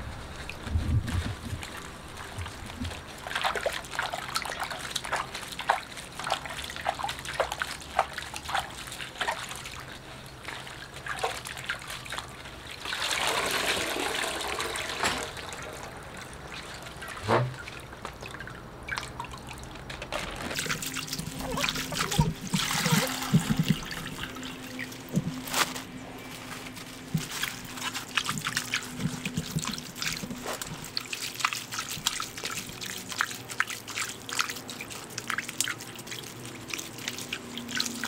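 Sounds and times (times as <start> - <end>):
cabbage splashing in brine: 0.0 - 19.8, 20.4 - 38.0.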